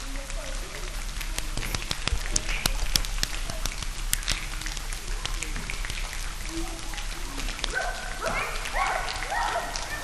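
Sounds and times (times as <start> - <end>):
rain pattering with crackling clicks: 0.0 - 10.0.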